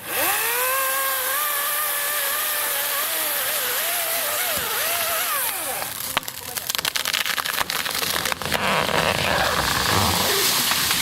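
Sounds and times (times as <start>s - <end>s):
electric chainsaw whining: 0.0s - 11.0s.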